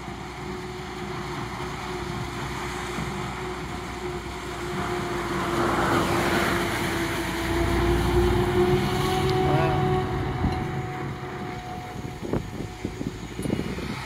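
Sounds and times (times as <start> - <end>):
harvester and tractor drone: 0.0 - 14.0
wind buffeting microphone: 0.0 - 14.0.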